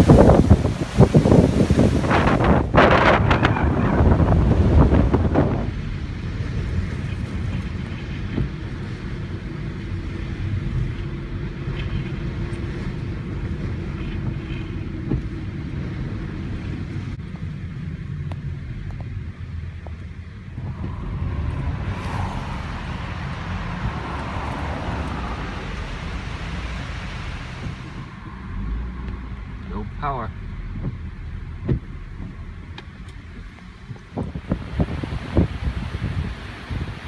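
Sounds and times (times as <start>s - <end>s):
wind buffeting microphone: 0.0s - 29.7s, 30.3s - 37.0s.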